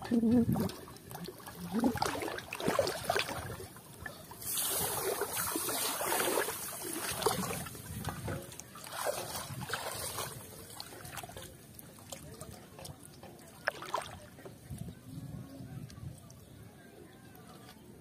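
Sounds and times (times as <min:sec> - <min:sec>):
shallow water sloshing and splashing: 0:00.1 - 0:15.1.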